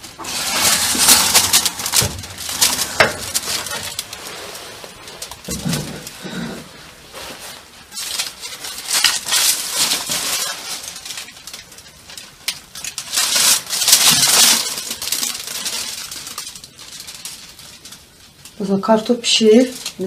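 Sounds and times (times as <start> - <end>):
aluminium foil crinkling: 0.0 - 20.0.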